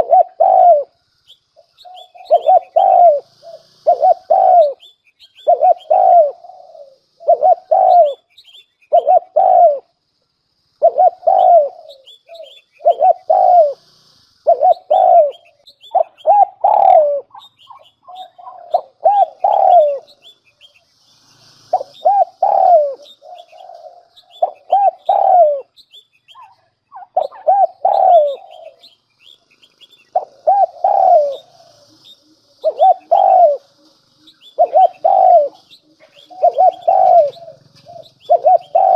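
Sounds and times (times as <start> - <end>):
dove cooing: 0.0 - 1.0, 1.6 - 8.3, 8.9 - 10.0, 10.8 - 20.3, 21.5 - 28.9, 29.8 - 38.9
small birds chirping: 0.0 - 38.9.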